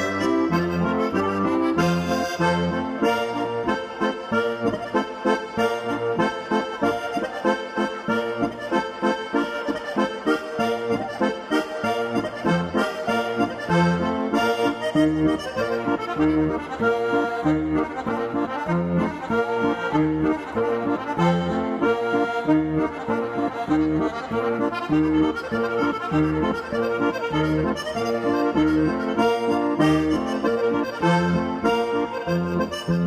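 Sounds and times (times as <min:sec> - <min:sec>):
accordion folk music: 0:00.0 - 0:33.0.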